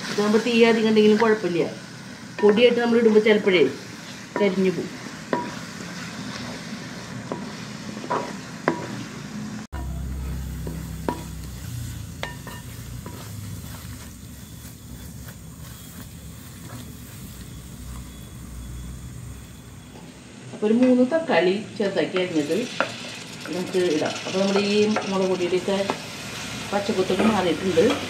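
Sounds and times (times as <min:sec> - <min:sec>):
onions sizzling in a pot: 0:00.0 - 0:28.0.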